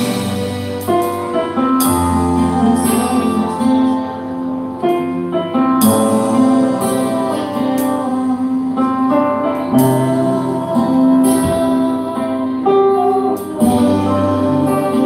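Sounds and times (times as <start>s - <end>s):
guitar and keyboard accompaniment: 0.0s - 15.0s
woman singing: 1.5s - 4.5s, 5.8s - 15.0s.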